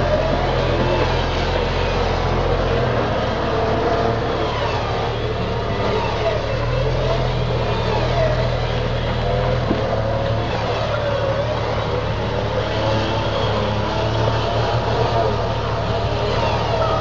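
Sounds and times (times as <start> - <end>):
suv engine running at low speed: 0.0 - 17.0.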